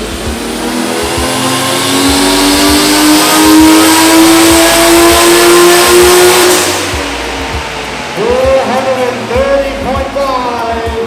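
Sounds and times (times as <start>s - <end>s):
van engine revving under load: 0.0s - 10.6s.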